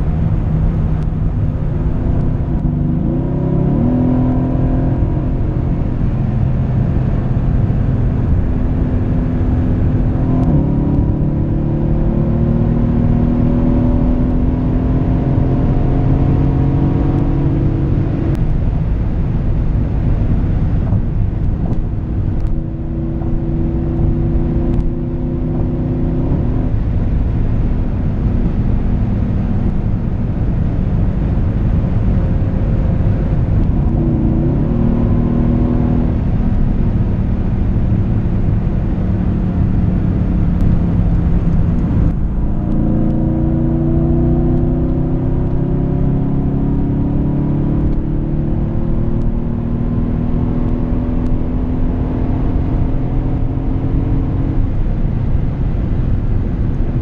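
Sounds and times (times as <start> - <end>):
car engine revving: 0.0 - 57.0
road noise: 0.0 - 57.0.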